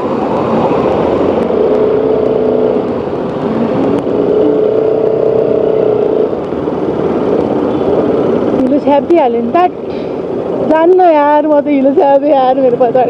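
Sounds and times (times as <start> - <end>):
motorcycle engine running: 0.0 - 11.9
rushing noise: 0.0 - 12.9.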